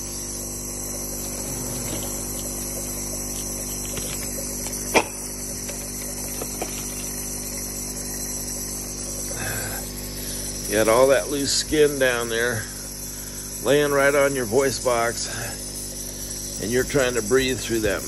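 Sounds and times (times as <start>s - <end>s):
compressor electric hum: 0.0s - 18.0s.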